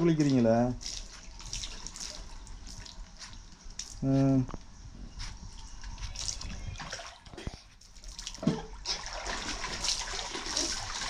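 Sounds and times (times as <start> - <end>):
water splashing in a pool: 0.0 - 4.0, 6.1 - 11.0.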